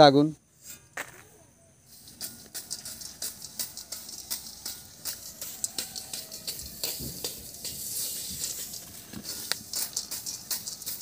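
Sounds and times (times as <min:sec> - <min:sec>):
sand and chickpeas scraped in a wok: 0:01.8 - 0:11.0.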